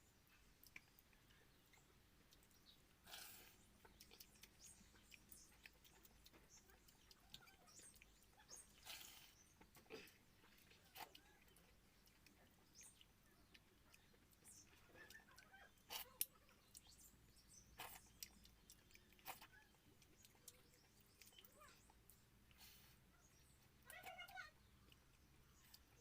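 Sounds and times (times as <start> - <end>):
soft eating mouth smacks: 0.5 - 24.1.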